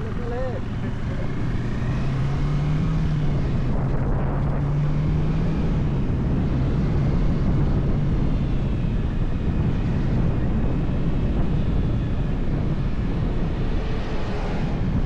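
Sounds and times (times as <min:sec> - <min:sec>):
motorcycle engine drone: 0:00.0 - 0:15.0.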